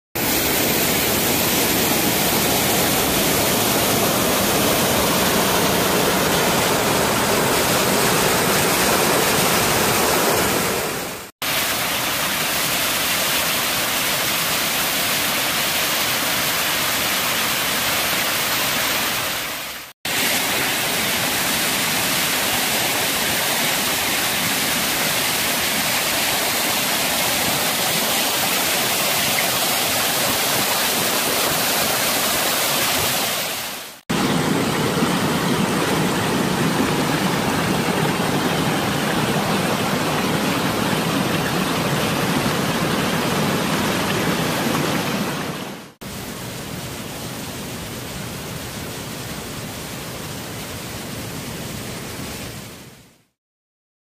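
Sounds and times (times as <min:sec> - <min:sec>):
waterfall splashing into pool: 0:00.2 - 0:52.7.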